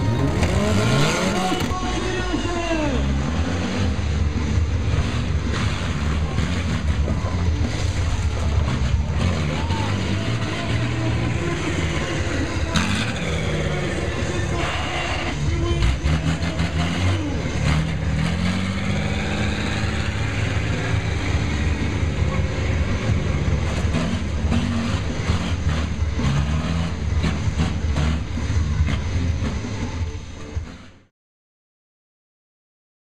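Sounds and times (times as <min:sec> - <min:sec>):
truck engine revving: 0:00.0 - 0:31.1.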